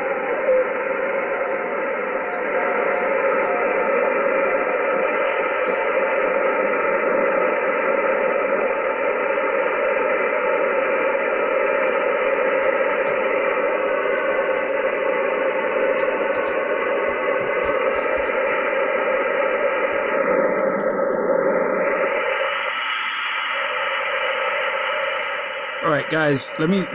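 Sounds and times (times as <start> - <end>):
radio hiss and static: 0.0 - 26.9.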